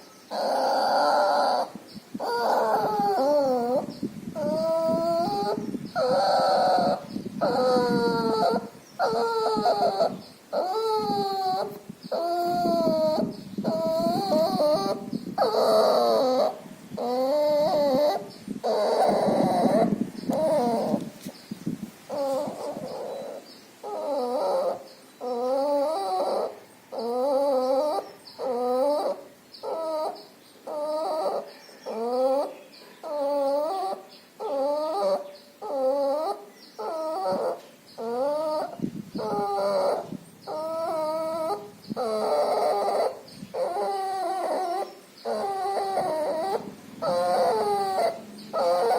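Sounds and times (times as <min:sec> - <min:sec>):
puppy whimpering with each breath: 0:00.0 - 0:48.9.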